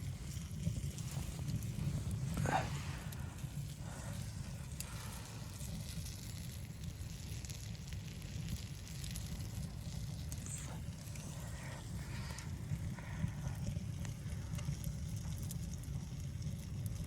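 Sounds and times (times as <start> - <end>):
small crackles and clicks: 0.0 - 17.0
wind rumble on microphone: 0.0 - 17.0.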